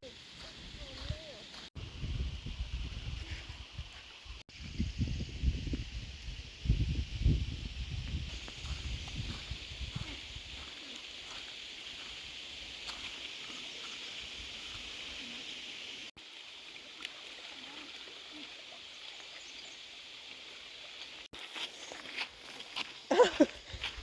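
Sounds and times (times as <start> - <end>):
high-pitched outdoor hiss: 0.0 - 24.0.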